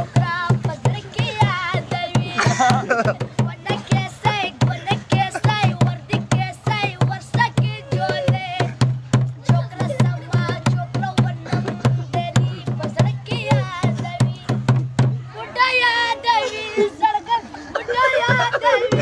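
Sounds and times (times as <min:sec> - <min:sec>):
boy singing: 0:00.0 - 0:19.0.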